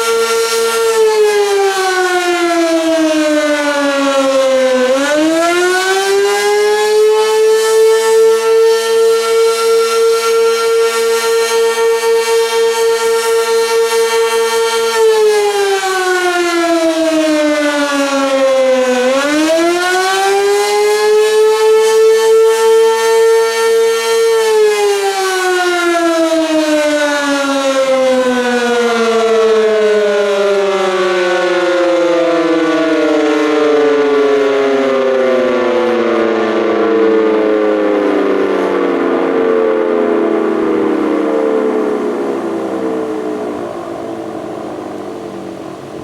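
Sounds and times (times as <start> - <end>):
warning siren: 0.0 - 46.0.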